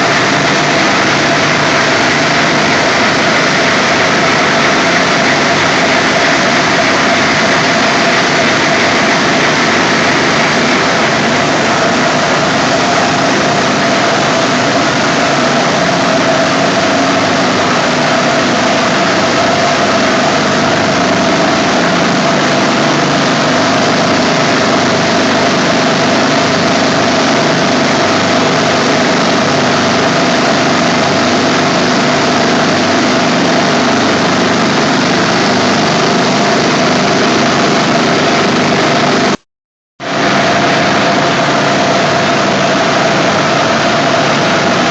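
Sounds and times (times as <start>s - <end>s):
compressors running with whine: 0.0s - 39.4s, 40.0s - 44.9s.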